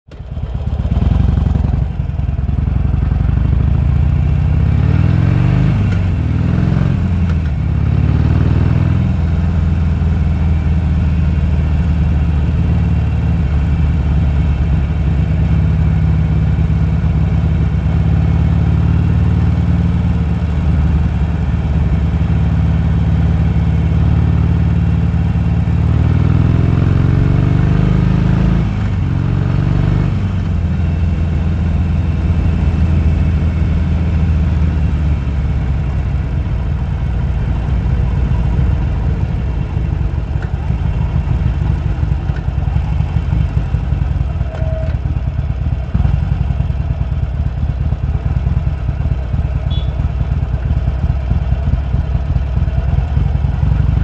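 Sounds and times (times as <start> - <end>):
motorcycle engine revving: 0.1 - 54.0.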